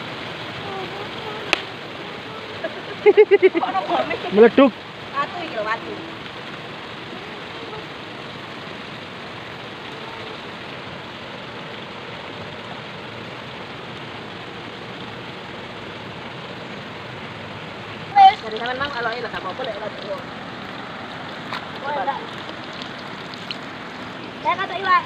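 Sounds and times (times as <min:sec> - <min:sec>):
river flowing over rocks: 0:00.0 - 0:25.0.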